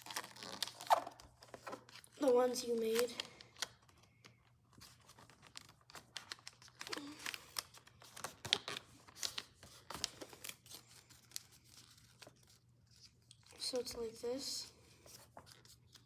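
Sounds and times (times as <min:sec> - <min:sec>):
paper being folded and creased: 0:00.0 - 0:16.0.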